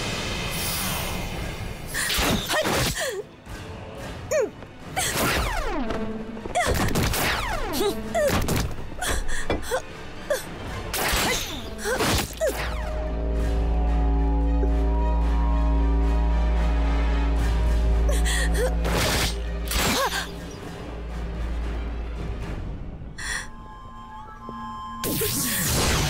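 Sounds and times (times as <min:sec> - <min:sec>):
dramatic music: 0:00.0 - 0:26.0.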